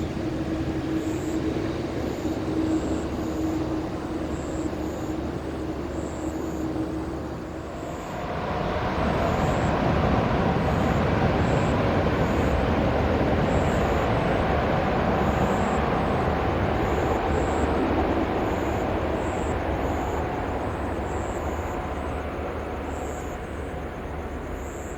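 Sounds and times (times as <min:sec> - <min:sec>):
jet engines roaring: 0:00.0 - 0:22.6.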